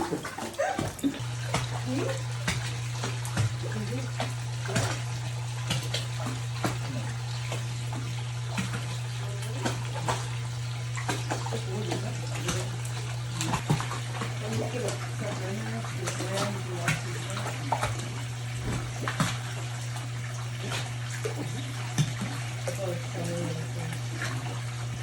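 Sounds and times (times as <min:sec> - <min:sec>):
water running: 0:00.0 - 0:25.0.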